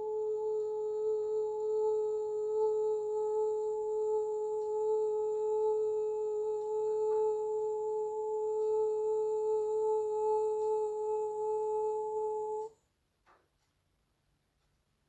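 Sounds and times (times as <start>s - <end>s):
steady meditation tone: 0.0s - 12.8s.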